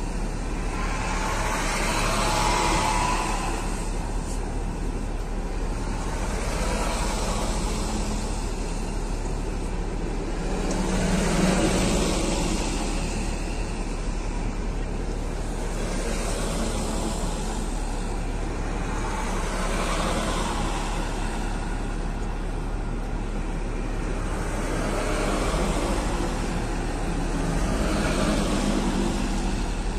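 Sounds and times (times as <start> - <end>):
trucks passing on wet road: 0.0 - 29.9.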